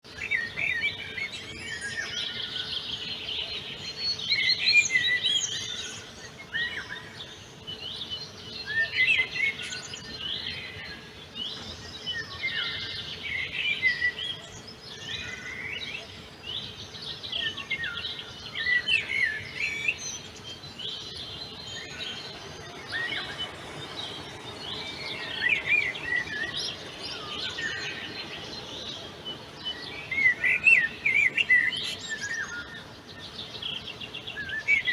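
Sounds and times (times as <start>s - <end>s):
songbirds singing and chirping: 0.0s - 34.9s.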